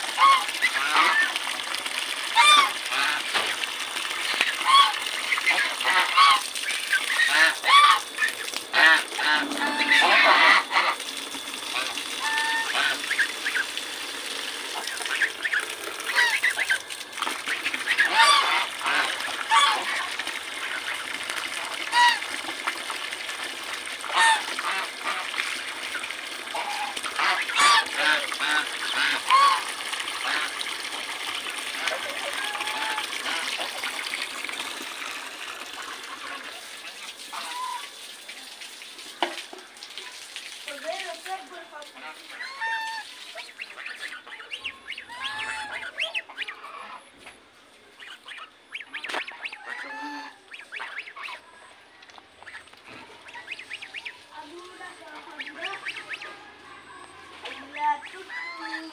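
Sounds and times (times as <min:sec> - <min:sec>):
geese honking: 0:00.0 - 0:01.4, 0:02.3 - 0:03.6, 0:04.2 - 0:14.0, 0:14.6 - 0:23.2, 0:24.0 - 0:34.0, 0:35.7 - 0:37.9, 0:42.0 - 0:47.2, 0:48.0 - 0:51.5, 0:52.4 - 0:58.9
running water splashing: 0:00.0 - 0:47.2, 0:47.8 - 0:58.9.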